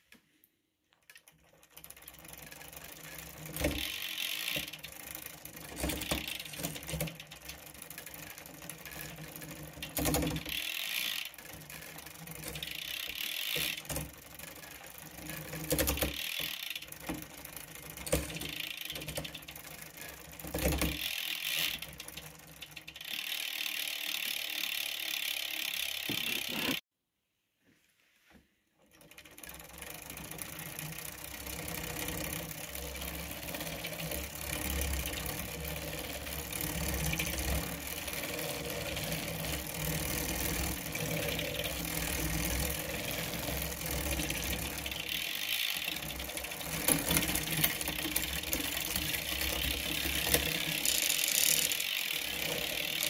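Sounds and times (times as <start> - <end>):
bicycle chain running over cassette: 1.2 - 26.8, 28.9 - 53.0
freewheel ratchet buzzing: 1.6 - 26.8, 28.9 - 53.0.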